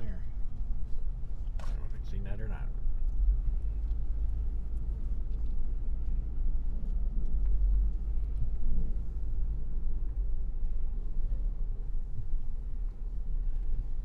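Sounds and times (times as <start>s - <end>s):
vehicle rumble from inside cabin: 0.0s - 14.0s.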